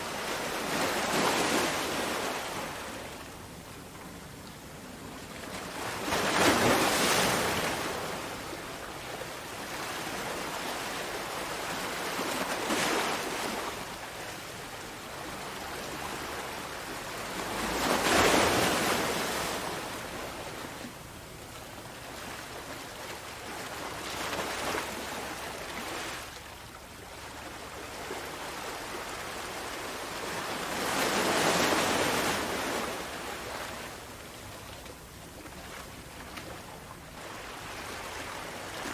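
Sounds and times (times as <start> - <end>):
sea waves breaking on shore: 0.0 - 4.2, 4.8 - 38.9.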